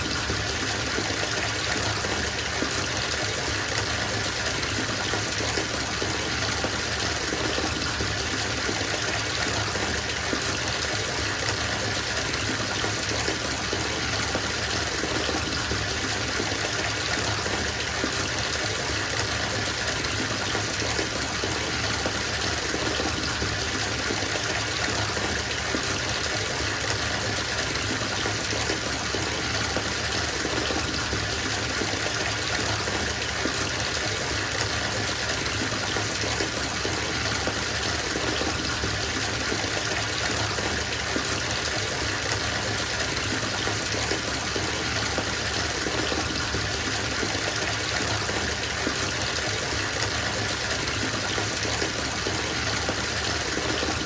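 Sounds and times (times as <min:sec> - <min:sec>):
water gushing into bathtub: 0:00.0 - 0:54.0.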